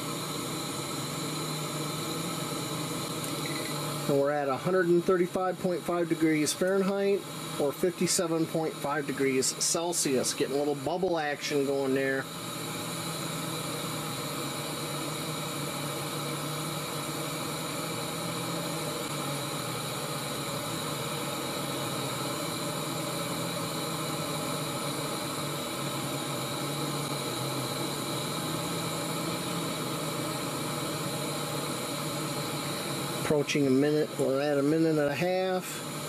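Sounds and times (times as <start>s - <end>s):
gas stove burner hissing: 0.0s - 36.0s.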